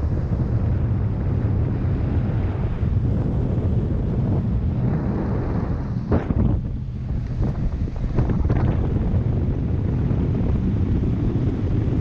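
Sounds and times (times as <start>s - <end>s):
boat outboard motor rushing: 0.0s - 12.0s
wind buffeting microphone: 0.0s - 12.0s.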